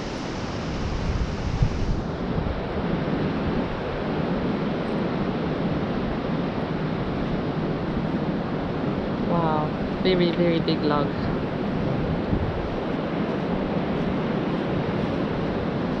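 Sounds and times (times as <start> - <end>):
surf washing on beach: 0.0 - 16.0
wind buffeting microphone: 0.0 - 16.0.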